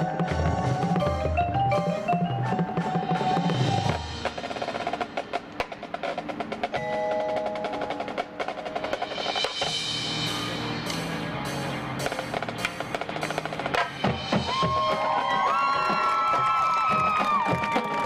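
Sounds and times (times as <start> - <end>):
mallet keyboards: 0.0 - 15.0
drums: 0.0 - 18.0
marching band playing: 0.0 - 18.0.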